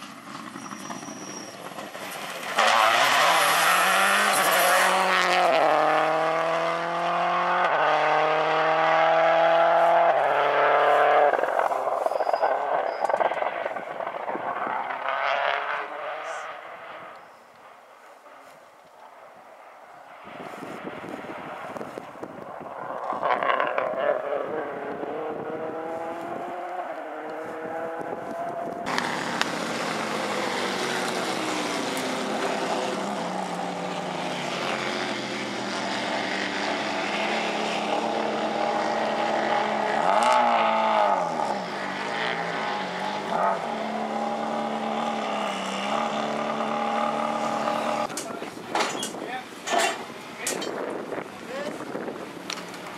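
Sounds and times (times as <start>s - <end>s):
rally car engine revving: 0.3s - 17.2s, 22.5s - 49.2s.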